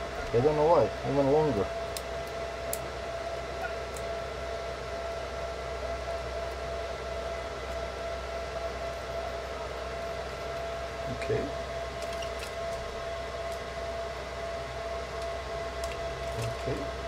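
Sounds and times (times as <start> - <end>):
background hum: 0.0 - 17.0
thin high whine: 0.0 - 17.0.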